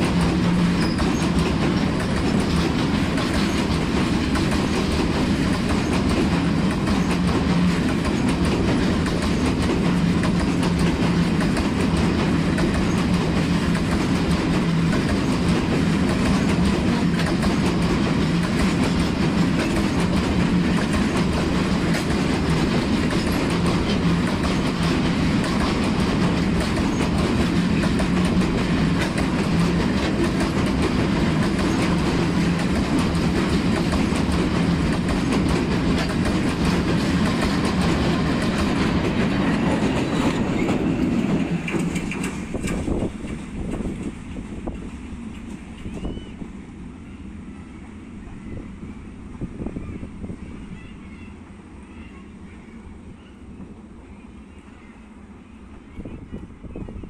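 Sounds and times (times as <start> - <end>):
wheels clicking over rail joints: 0.0 - 46.2
freight wagons rumbling on rails: 0.0 - 57.0.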